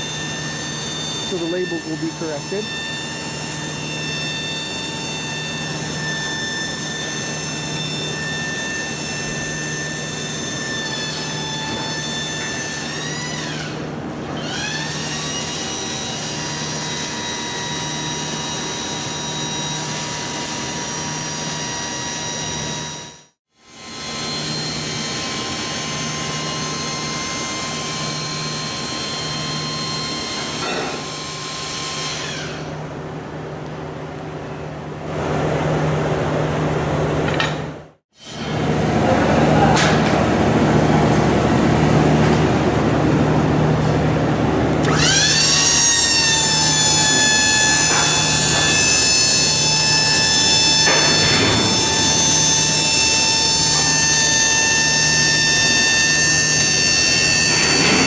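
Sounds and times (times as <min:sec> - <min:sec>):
hydraulic pump whining: 0:00.0 - 0:32.9, 0:37.1 - 0:58.0.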